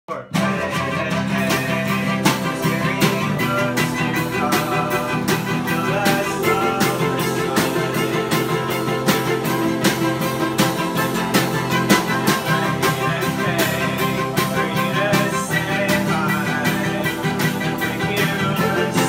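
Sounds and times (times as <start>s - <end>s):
acoustic guitar: 0.1s - 19.0s
drum kit beat: 0.1s - 19.0s
electric keyboard: 0.4s - 19.0s
violins: 0.4s - 19.0s.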